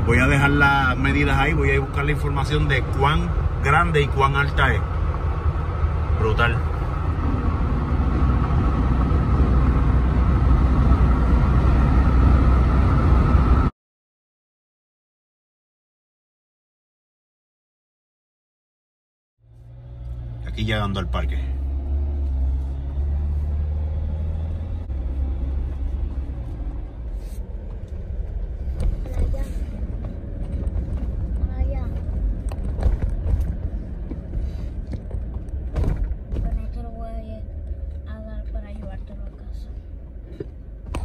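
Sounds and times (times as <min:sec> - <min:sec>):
vehicle road and engine rumble: 0:00.0 - 0:13.7, 0:19.4 - 0:41.0.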